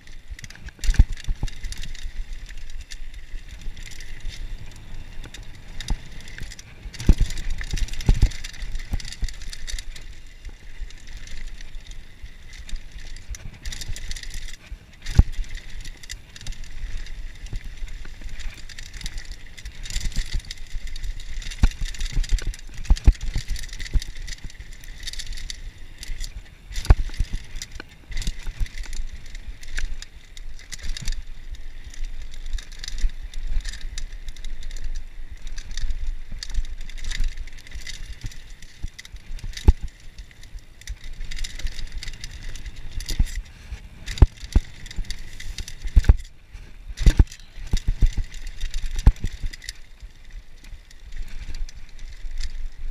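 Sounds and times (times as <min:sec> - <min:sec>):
bike frame and chain rattling: 0:00.0 - 0:52.9
bike tyres rolling hiss: 0:00.0 - 0:52.9.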